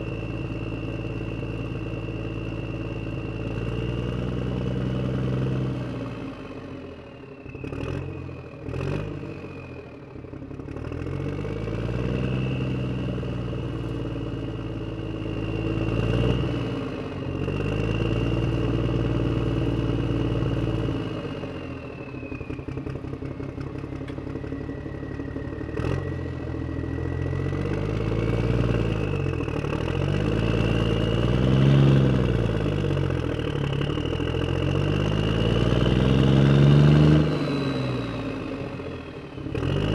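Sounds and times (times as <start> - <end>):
vehicle engine driving away: 0.0 - 39.9.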